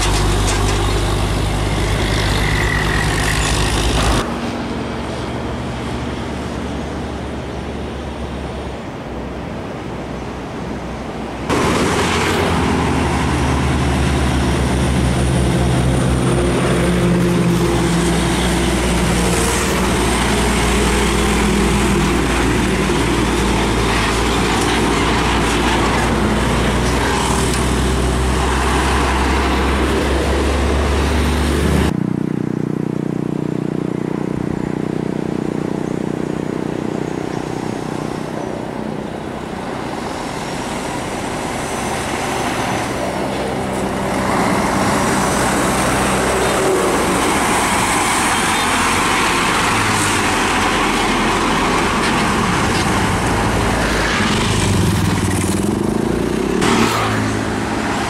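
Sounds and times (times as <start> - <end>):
trucks passing on highway: 0.0 - 58.0.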